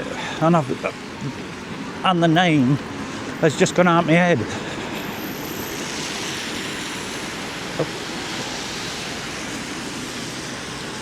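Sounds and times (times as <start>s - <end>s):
road noise: 0.0s - 11.0s
rushing wind: 0.0s - 11.0s.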